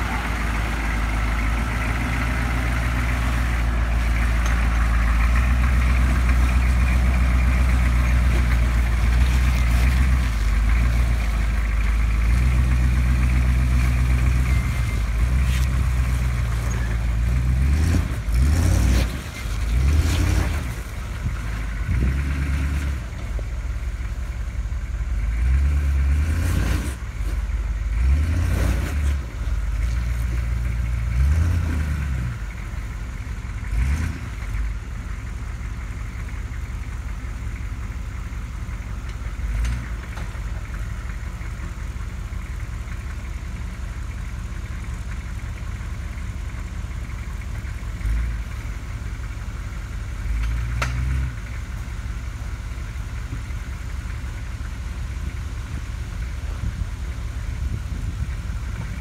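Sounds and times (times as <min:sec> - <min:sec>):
truck engine revving under load: 0:00.0 - 0:59.0.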